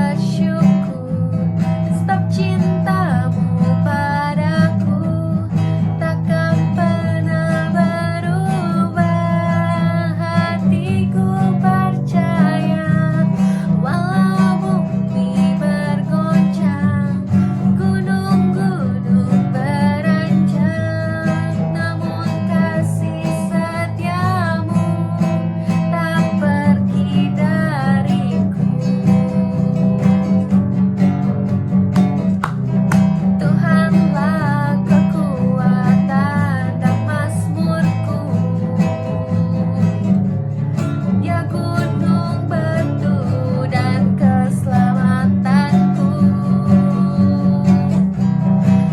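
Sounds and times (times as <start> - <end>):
person singing: 0.0 - 30.5, 32.4 - 40.2, 41.1 - 48.1
strummed acoustic guitar: 0.0 - 48.9.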